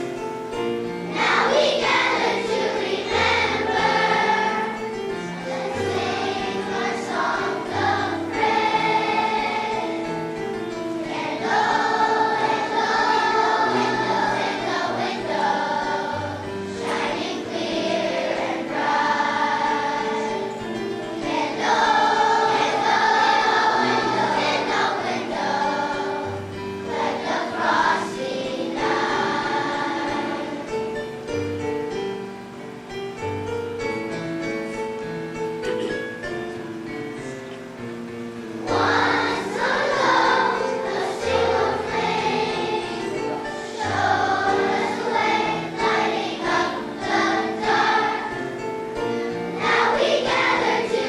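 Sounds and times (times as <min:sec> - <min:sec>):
children's choir singing: 0:00.0 - 0:32.2, 0:38.4 - 0:51.0
instrumental accompaniment: 0:00.0 - 0:51.0.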